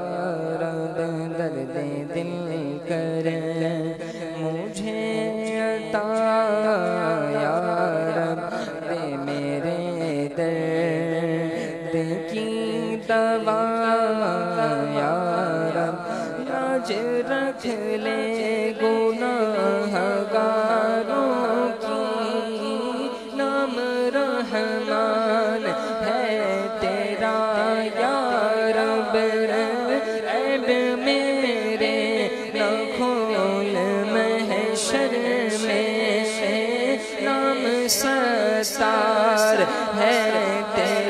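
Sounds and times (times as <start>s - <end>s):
man singing melismatic notes: 0.0s - 41.0s.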